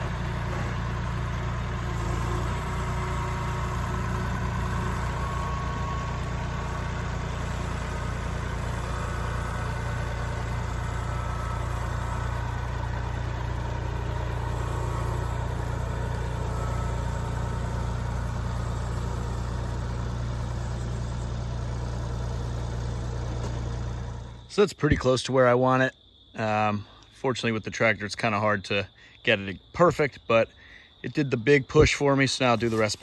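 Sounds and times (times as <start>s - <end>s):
tractor diesel engine running: 0.0s - 25.5s, 30.6s - 33.0s.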